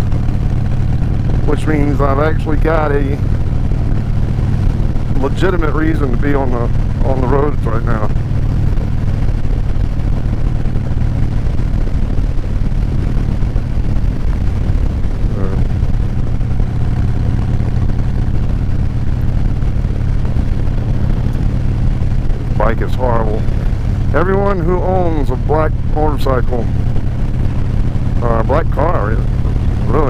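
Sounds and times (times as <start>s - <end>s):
motorcycle engine rumble: 0.0s - 30.0s
wind noise: 0.0s - 30.0s.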